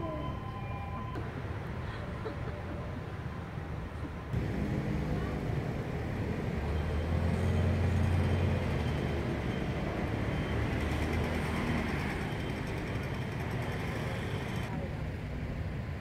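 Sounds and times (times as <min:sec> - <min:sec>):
low engine rumble: 0:00.0 - 0:16.0
outdoor noise: 0:00.0 - 0:16.0.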